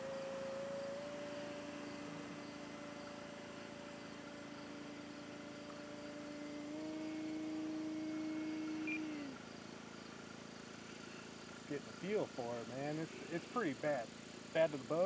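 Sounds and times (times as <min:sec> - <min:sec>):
model plane motor humming: 0:00.0 - 0:13.8.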